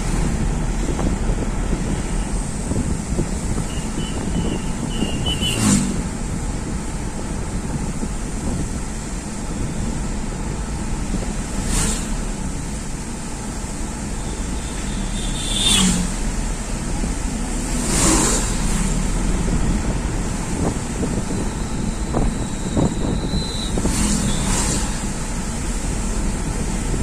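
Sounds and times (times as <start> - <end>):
passing vehicle whooshes: 0.0 - 14.0, 14.9 - 27.0
vehicle road and engine noise: 0.0 - 27.0.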